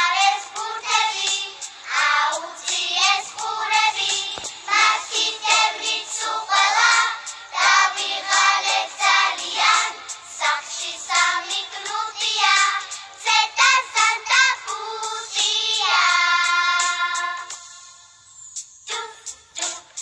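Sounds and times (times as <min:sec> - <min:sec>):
girls singing together: 0:00.0 - 0:17.7, 0:18.9 - 0:20.0
backing music: 0:00.0 - 0:18.3.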